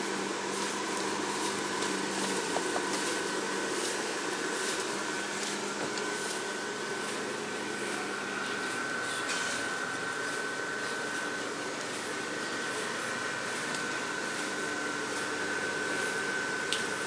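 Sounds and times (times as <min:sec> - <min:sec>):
blower fans whirring: 0:00.0 - 0:17.0.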